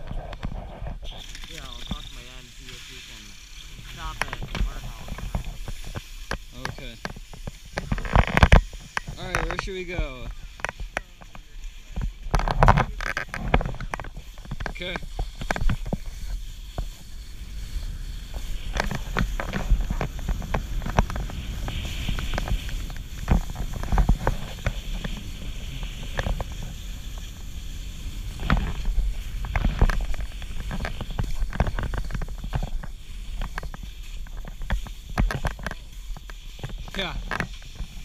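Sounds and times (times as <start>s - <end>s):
skis knocking on bumps: 0.0s - 38.0s
skis scraping over snow: 0.0s - 38.0s.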